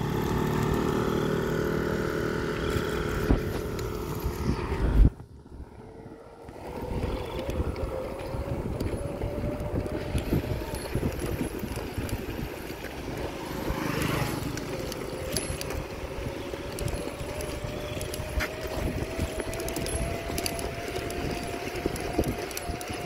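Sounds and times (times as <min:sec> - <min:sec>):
bicycle tyres rumbling on concrete: 0:00.0 - 0:23.0
wind buffeting microphone: 0:01.6 - 0:23.0.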